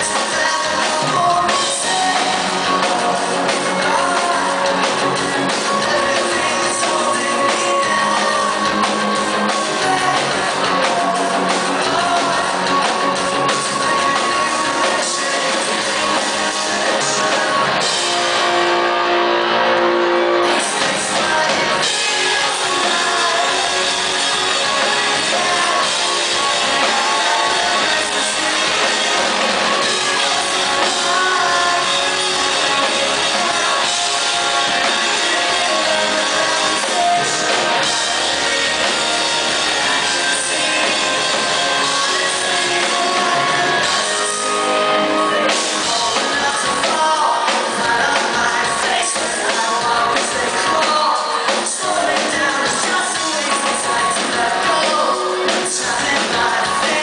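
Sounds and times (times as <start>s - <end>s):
lead vocals singing: 0.0s - 57.0s
live pop-punk band: 0.0s - 57.0s.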